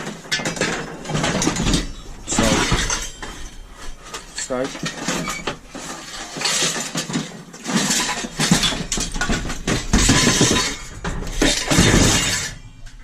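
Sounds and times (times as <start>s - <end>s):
scrap metal clattering: 0.0s - 13.0s.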